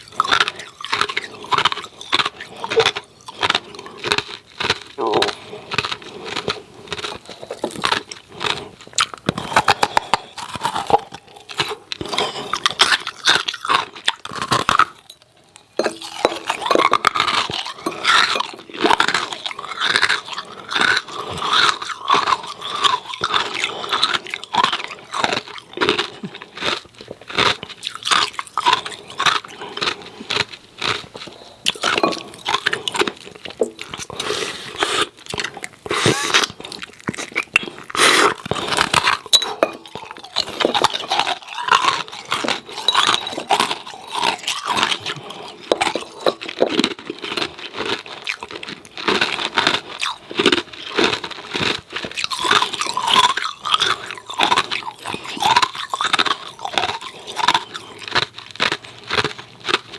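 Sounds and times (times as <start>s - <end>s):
ice cubes crunching between teeth: 0.0s - 59.9s.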